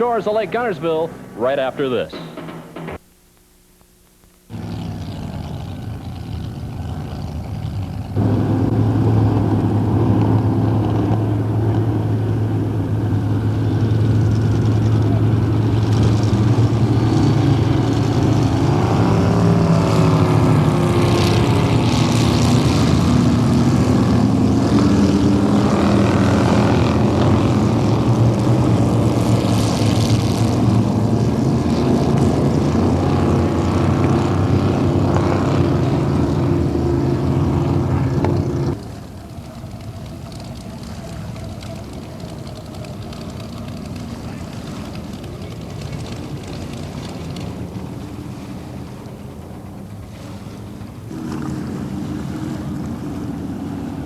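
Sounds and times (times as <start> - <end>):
powerboat engines running: 0.0 - 3.1, 4.4 - 54.0.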